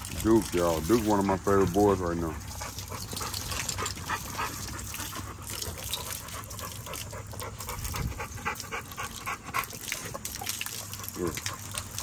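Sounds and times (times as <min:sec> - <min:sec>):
dogs lapping water: 0:00.0 - 0:12.0
hose water splashing on concrete: 0:00.0 - 0:12.0
dog noises: 0:01.0 - 0:12.0.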